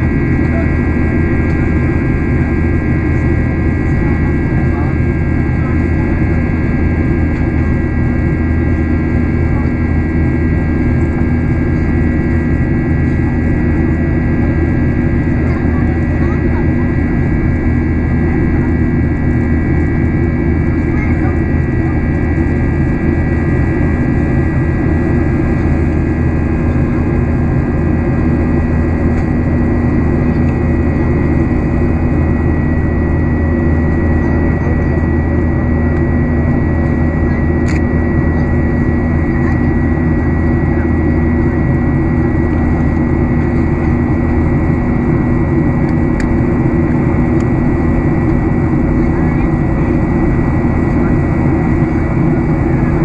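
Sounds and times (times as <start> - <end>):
airplane cabin engine drone: 0.0 - 53.0.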